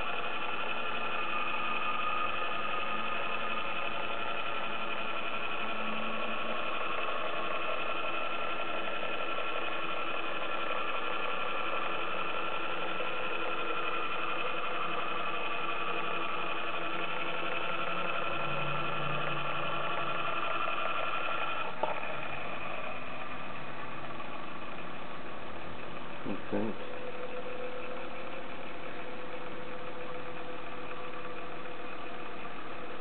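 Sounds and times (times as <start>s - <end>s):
small electric motor whirring: 0.0s - 33.0s.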